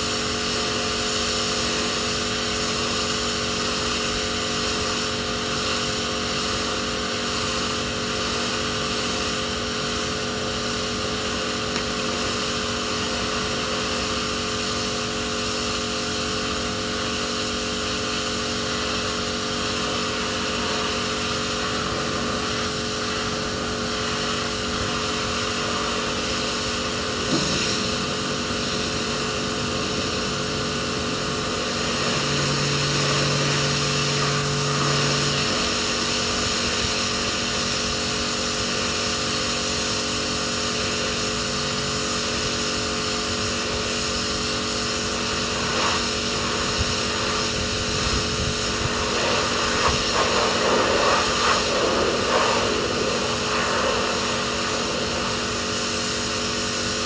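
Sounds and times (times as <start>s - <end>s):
pressure washer motor humming: 0.0s - 57.0s
water jet hissing: 0.0s - 57.0s.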